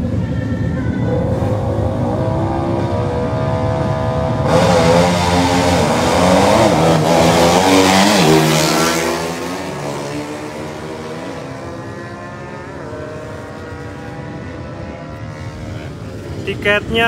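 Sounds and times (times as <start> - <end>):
motorcycles accelerating hard: 1.1 - 17.0.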